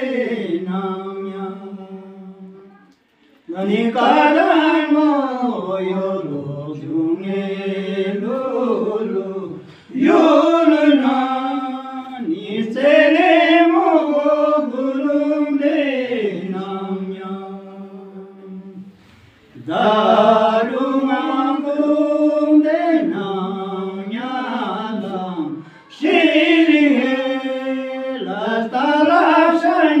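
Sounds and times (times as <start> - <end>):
men singing unaccompanied: 0.0 - 2.5, 3.5 - 18.9, 19.6 - 30.0.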